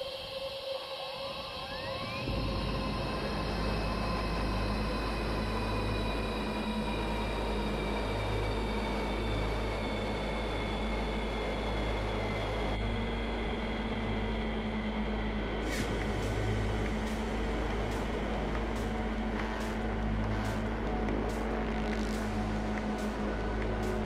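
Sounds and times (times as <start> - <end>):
wind rumble on microphone: 1.2 - 24.0.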